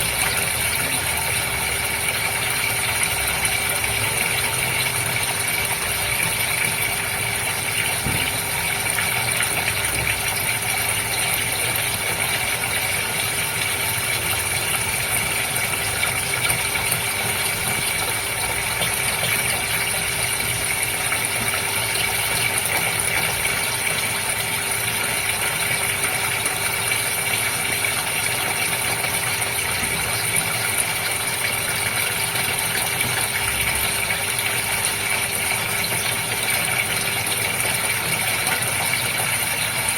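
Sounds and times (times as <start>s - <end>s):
water pump hum: 0.0s - 39.9s.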